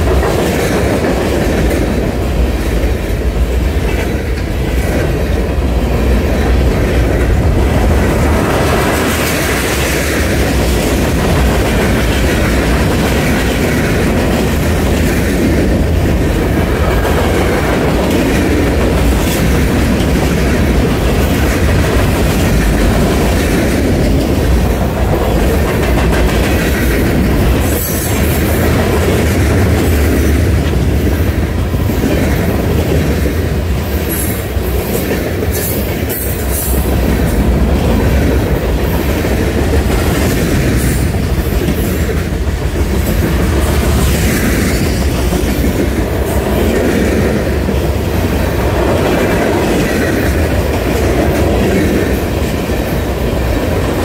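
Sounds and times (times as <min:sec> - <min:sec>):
clickety-clack over rail joints: 0:00.0 - 0:54.0
train wheels rumbling on rail: 0:00.0 - 0:54.0.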